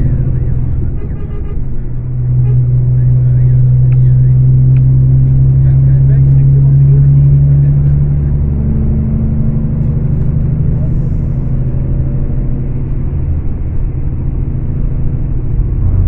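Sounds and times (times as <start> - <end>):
coach diesel engine drone: 0.0 - 16.0.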